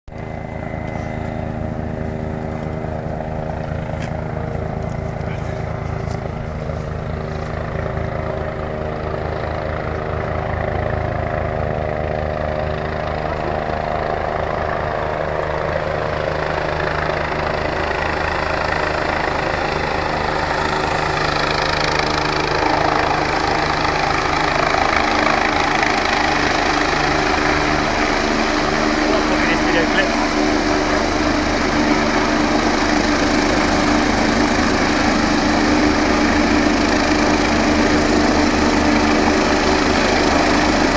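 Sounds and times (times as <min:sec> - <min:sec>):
helicopter rotor beat: 0:00.1 - 0:40.9
high turbine whine: 0:00.1 - 0:40.9.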